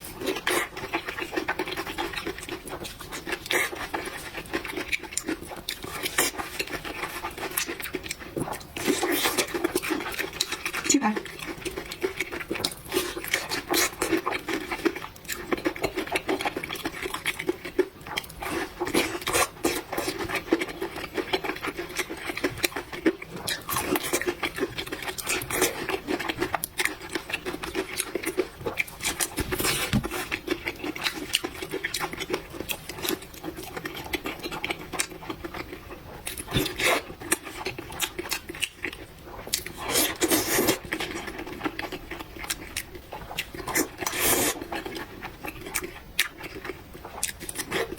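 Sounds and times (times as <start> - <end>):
wet chewing: 0.1 - 47.9.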